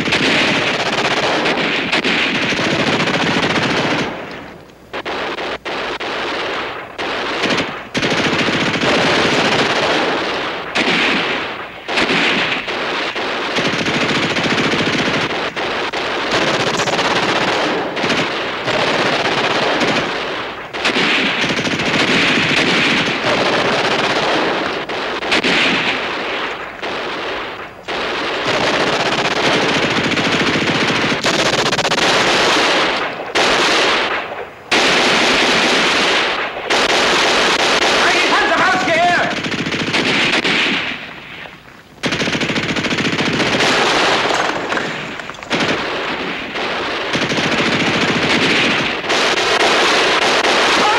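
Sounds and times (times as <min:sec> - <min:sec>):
machine-gun fire bursts: 0:00.0 - 0:50.9.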